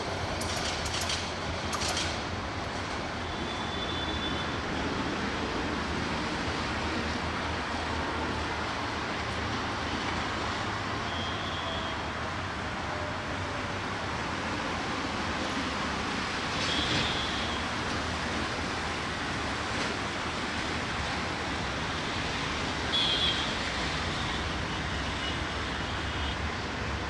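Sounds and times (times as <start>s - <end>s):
train rumbling along track: 0.0s - 27.0s.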